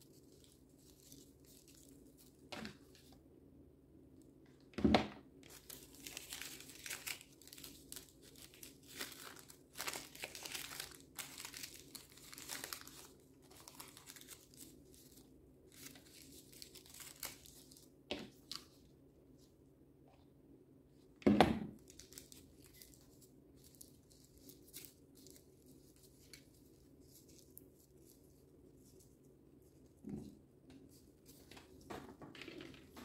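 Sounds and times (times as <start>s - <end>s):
paper filters crinkling: 0.0s - 3.2s, 5.4s - 18.8s, 21.8s - 33.0s.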